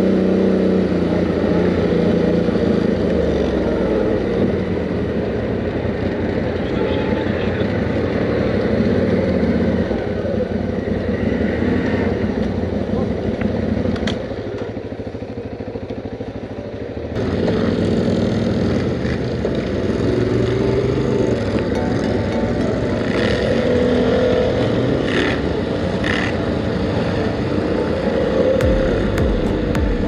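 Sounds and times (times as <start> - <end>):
atv engines running: 0.0 - 30.0.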